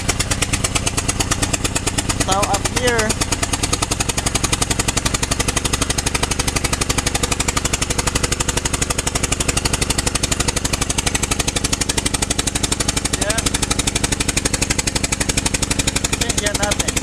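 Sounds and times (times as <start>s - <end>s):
engine running with rapid popping: 0.0s - 17.0s.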